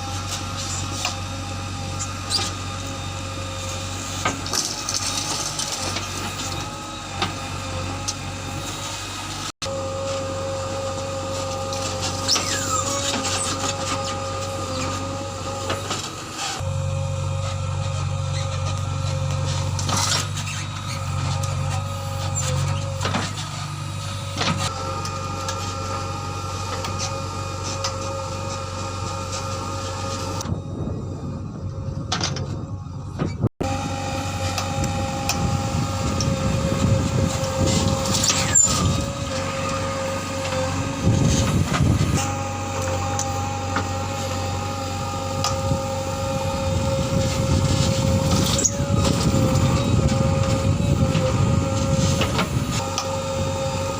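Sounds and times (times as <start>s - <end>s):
diesel engine running: 0.0s - 53.9s
high hydraulic whine: 0.0s - 53.9s.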